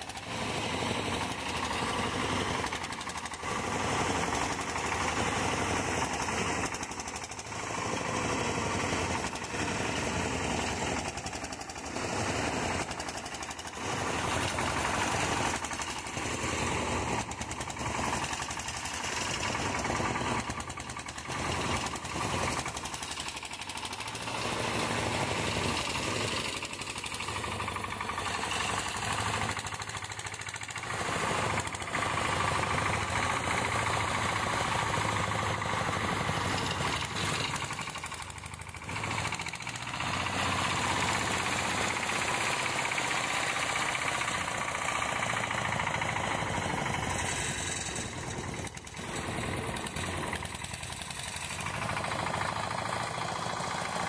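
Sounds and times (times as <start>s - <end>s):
small engine chugging under load: 0.0s - 54.0s.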